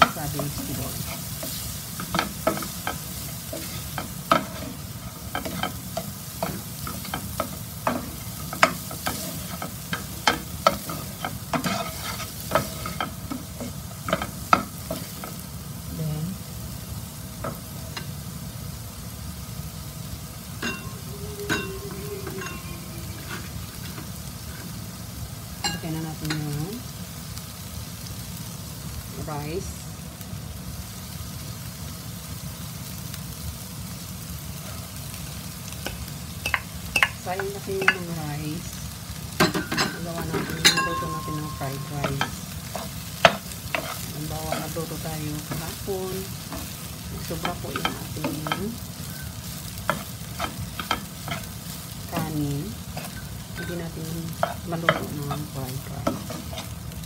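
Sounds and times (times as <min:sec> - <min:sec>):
vegetables sizzling in a frying pan: 0:00.0 - 0:57.0.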